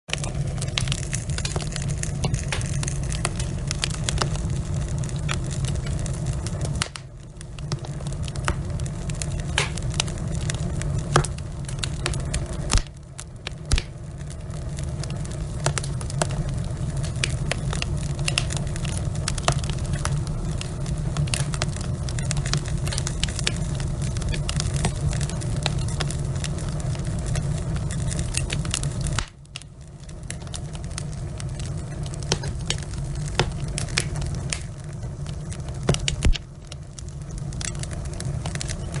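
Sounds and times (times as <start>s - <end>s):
log fire crackling: 0.0s - 39.0s
fire pops: 0.1s - 39.0s.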